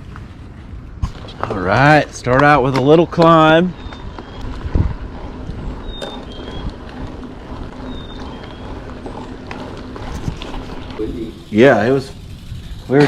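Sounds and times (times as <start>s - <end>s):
bicycle rolling noise: 0.0s - 13.0s
wind rumbling on microphone: 0.0s - 13.0s.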